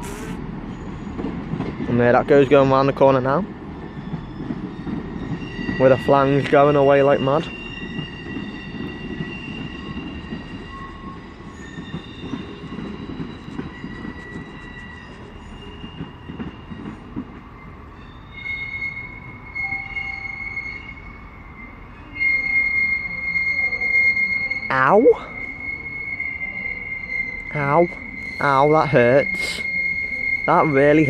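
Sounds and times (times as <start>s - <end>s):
train wheels squealing on rail: 0.0s - 31.0s.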